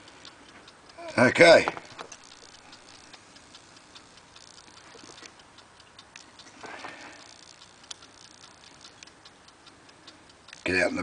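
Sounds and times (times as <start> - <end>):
small metallic clicks: 0.0 - 11.0.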